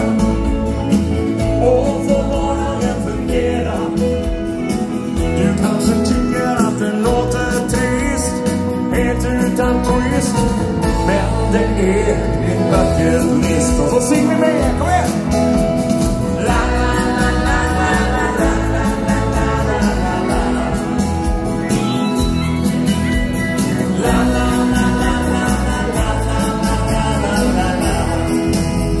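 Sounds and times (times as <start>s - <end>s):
live dance band playing: 0.0s - 29.0s
person singing: 0.0s - 29.0s.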